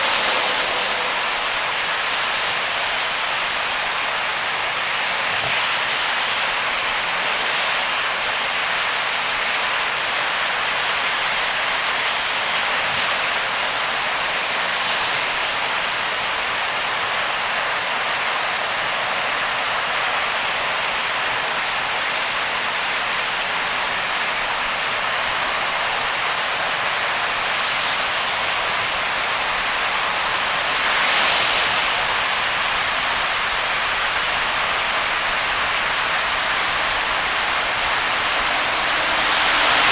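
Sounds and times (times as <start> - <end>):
tyres hissing through water: 0.0 - 39.9.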